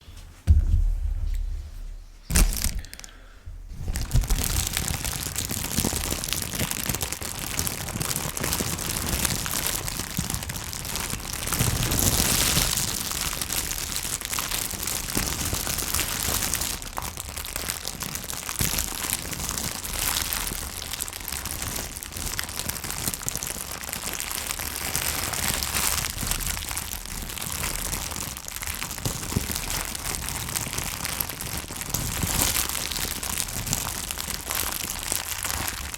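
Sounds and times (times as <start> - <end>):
plastic bag crinkling: 1.3 - 35.9.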